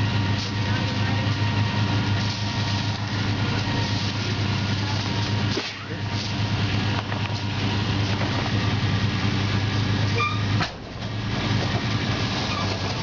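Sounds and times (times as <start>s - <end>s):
van engine running at low revs: 0.0s - 13.0s.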